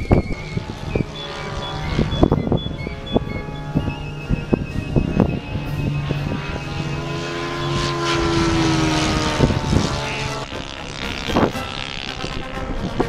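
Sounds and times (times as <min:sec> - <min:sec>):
model airplane engine droning: 0:00.0 - 0:13.0.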